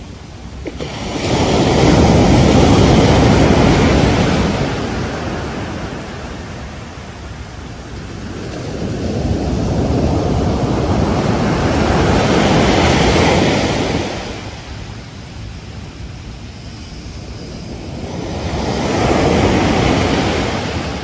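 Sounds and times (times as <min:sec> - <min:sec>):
ocean waves washing: 0:00.0 - 0:21.0.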